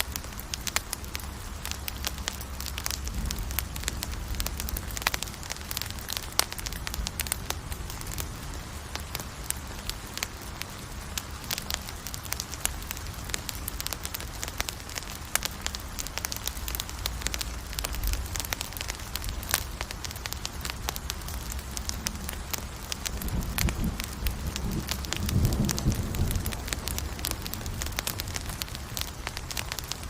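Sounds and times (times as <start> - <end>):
rumble of flames: 0.0 - 30.0
wood popping and crackling: 0.0 - 30.0.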